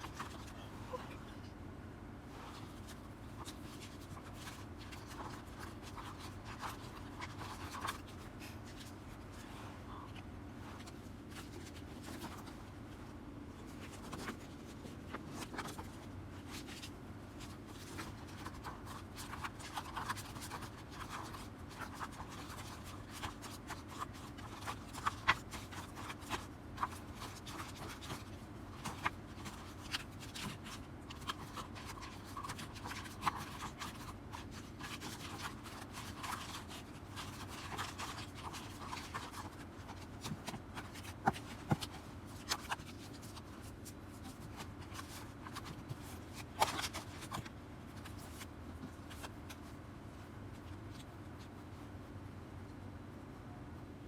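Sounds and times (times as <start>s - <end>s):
paper and plastic rustling: 2.4s - 9.5s, 13.6s - 51.8s.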